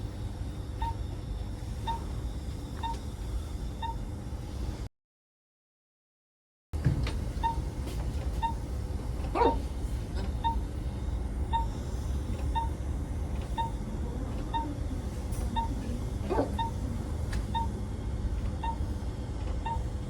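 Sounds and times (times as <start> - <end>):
patient monitor beeping: 0.5 - 4.1, 7.3 - 20.0.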